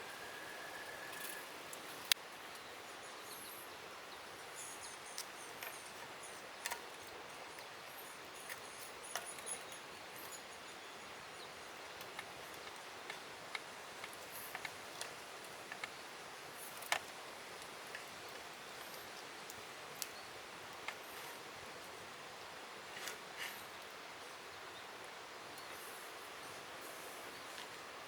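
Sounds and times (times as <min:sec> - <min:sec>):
soft steady hiss: 0:00.0 - 0:28.0.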